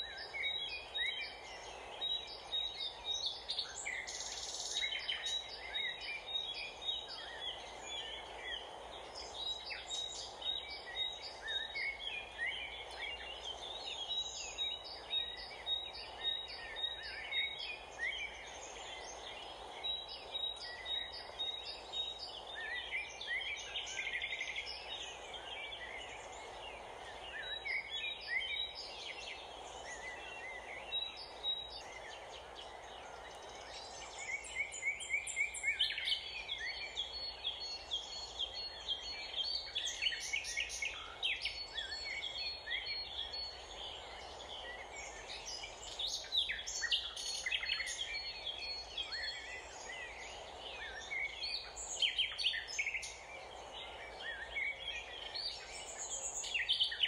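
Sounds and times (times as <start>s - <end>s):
outdoor background rush: 0.0s - 57.0s
songbirds chirping and trilling: 0.0s - 57.0s.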